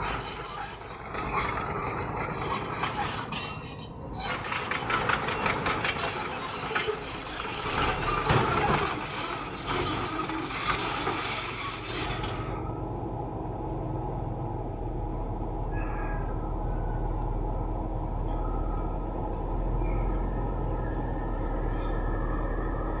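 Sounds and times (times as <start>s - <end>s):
bulldozer diesel engine: 0.0s - 23.0s.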